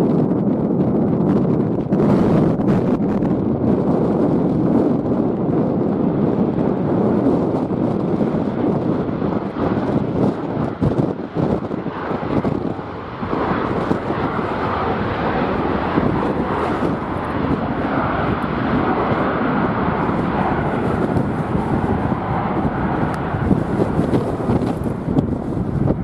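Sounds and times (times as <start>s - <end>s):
jet engines roaring: 0.0s - 26.0s
wind buffeting microphone: 0.0s - 26.0s.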